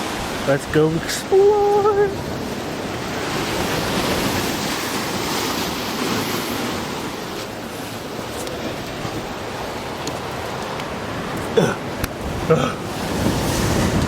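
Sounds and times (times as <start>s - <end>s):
ocean surf breaking on shore: 0.0s - 14.0s.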